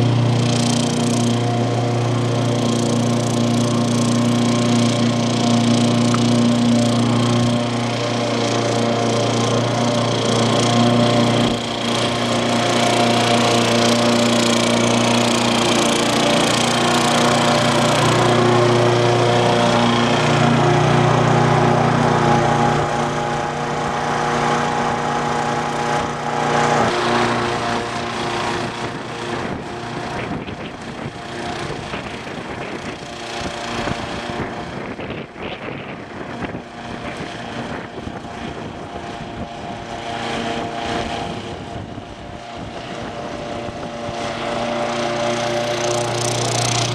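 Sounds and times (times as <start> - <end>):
lawnmower engine running: 0.0 - 46.9.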